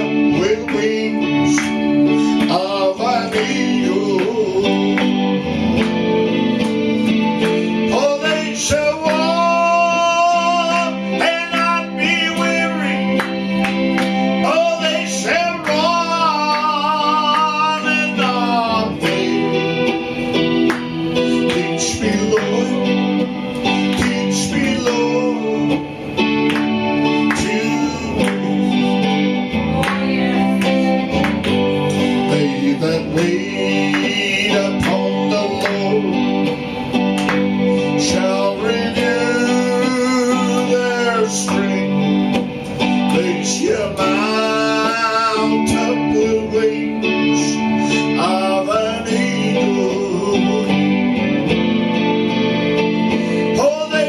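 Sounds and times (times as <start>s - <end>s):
man singing: 0.0s - 6.4s, 7.5s - 36.8s, 37.7s - 51.7s, 53.1s - 54.0s
acoustic guitar strumming: 0.0s - 54.0s.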